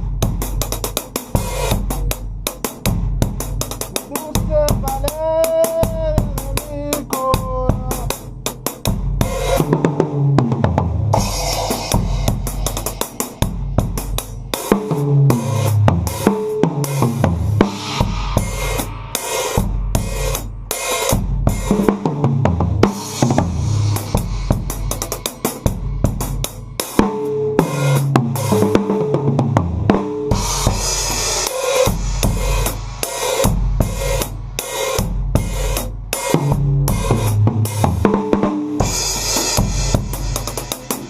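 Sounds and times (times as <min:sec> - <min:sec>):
acoustic drum kit groove: 0:00.0 - 0:41.0.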